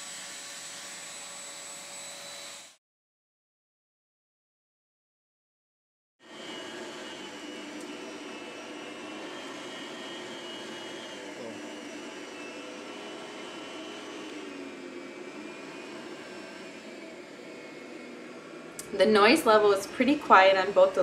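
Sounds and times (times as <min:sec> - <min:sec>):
vacuum cleaner running on carpet: 0:00.0 - 0:02.8, 0:06.2 - 0:21.0.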